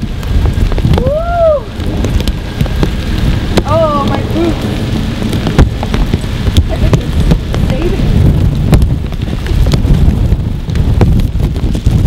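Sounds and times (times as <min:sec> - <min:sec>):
rumble on microphone: 0:00.0 - 0:12.0
steady rain: 0:00.0 - 0:12.0.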